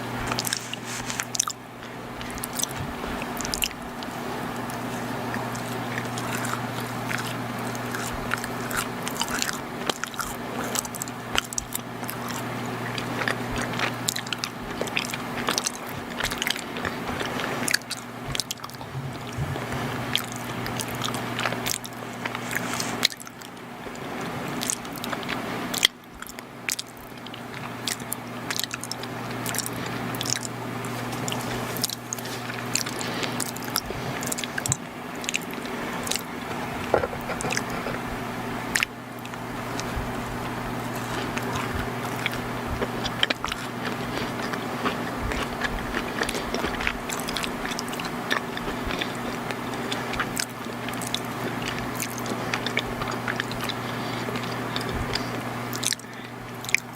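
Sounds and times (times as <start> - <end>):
low electrical hum: 0.0 - 56.9
chewing and biting: 0.2 - 56.9.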